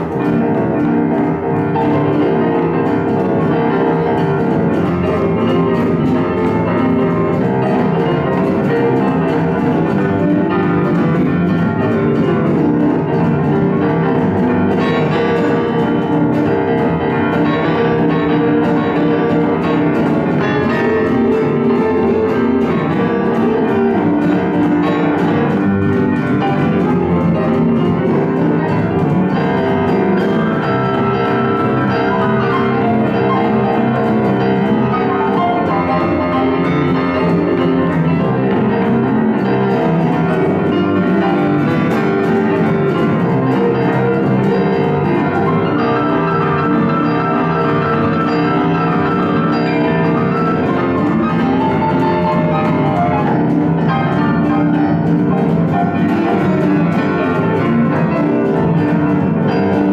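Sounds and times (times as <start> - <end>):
electric guitar: 0.0 - 59.9
grand piano playing: 0.0 - 59.9.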